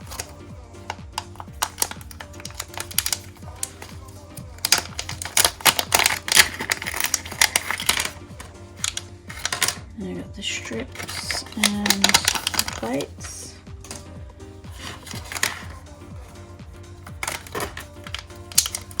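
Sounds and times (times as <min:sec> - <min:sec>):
small objects clicking and clattering: 0:00.0 - 0:09.8, 0:10.9 - 0:14.1, 0:14.7 - 0:15.9, 0:17.0 - 0:19.0
background music: 0:00.0 - 0:19.0.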